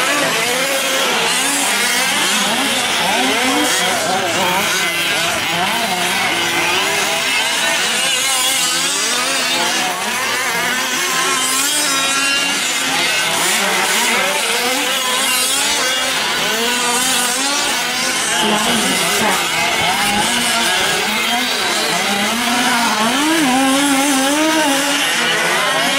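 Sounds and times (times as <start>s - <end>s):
rc truck engines racing: 0.0s - 25.9s.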